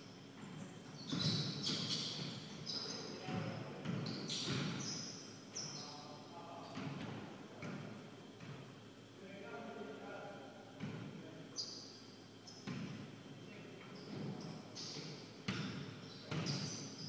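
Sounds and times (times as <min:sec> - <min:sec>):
sneakers squeaking: 0:00.0 - 0:08.8, 0:10.8 - 0:17.0.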